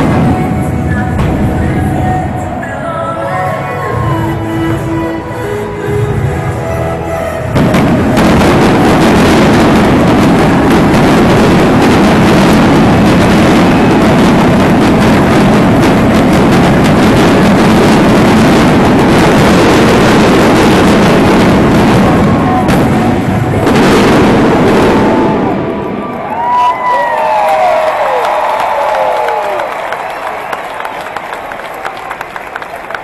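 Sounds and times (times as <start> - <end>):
fireworks crackle and rumble: 0.0 - 2.6, 6.0 - 33.0.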